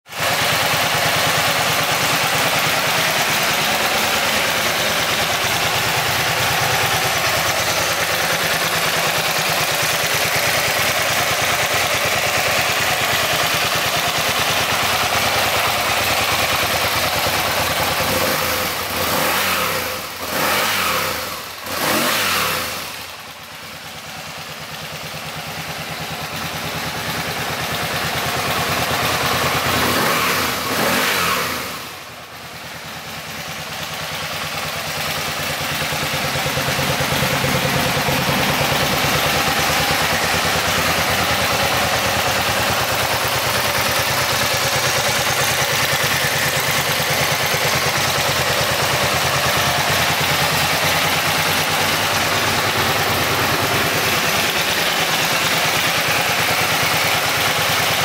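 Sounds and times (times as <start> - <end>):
motorcycle engine idling: 0.1 - 58.0.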